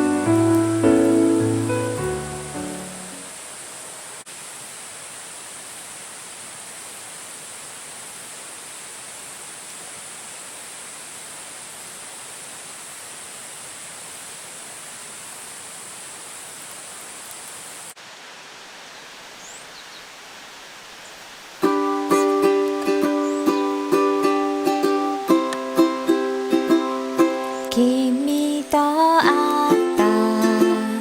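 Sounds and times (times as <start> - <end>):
high even hiss: 0.0 - 31.0
river water rushing: 0.0 - 31.0.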